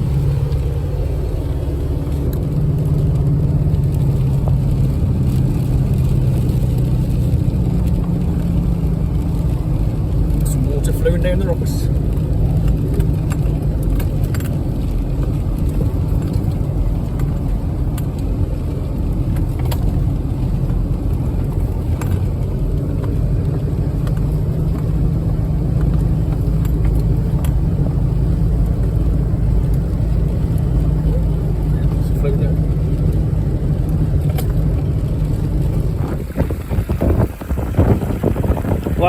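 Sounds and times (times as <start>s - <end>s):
off-road vehicle engine rumble: 0.0s - 39.0s.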